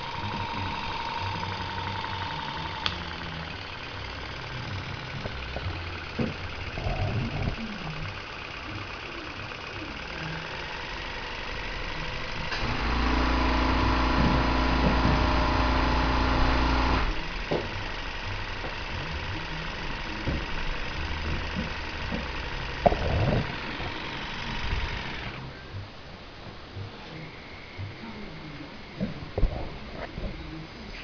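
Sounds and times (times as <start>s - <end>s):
model engine running: 0.0s - 25.6s
loud steady hum: 0.0s - 31.0s.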